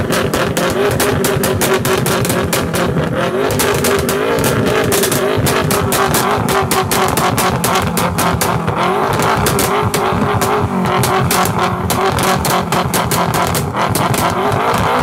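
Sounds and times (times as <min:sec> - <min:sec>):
car engine droning and revving: 0:00.0 - 0:15.0
exhaust crackles and pops: 0:00.0 - 0:15.0.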